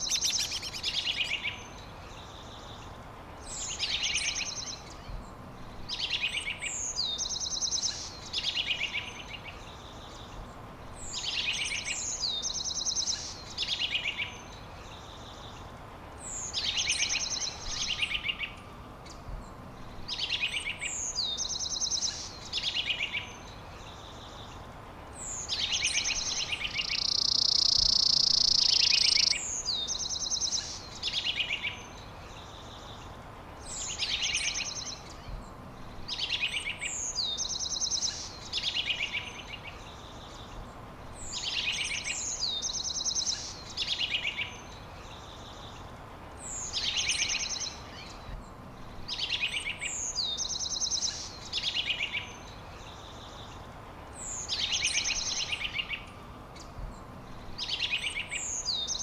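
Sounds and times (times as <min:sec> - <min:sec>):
outdoor hiss: 0:00.0 - 0:59.0
songbird singing: 0:00.0 - 0:59.0.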